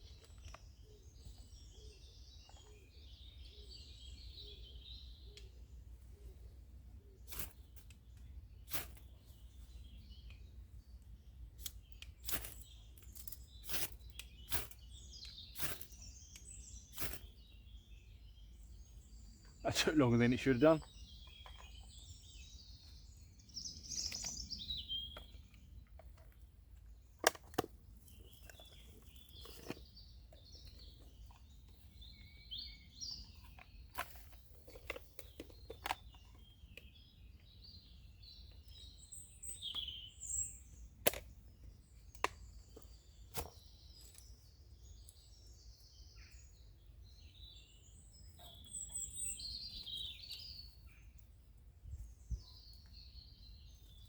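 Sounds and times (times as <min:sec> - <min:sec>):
birds chirping: 0:00.0 - 0:51.4, 0:52.0 - 0:54.0.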